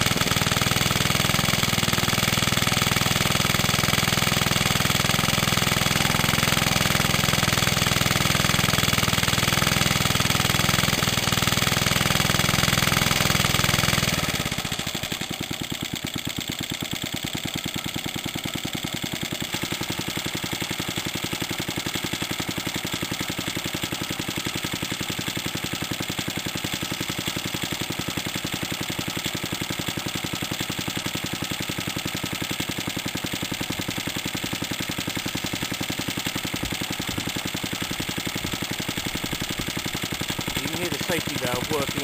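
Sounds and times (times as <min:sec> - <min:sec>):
air compressor pumping: 0:00.0 - 0:42.0
stationary engine running: 0:00.0 - 0:42.0.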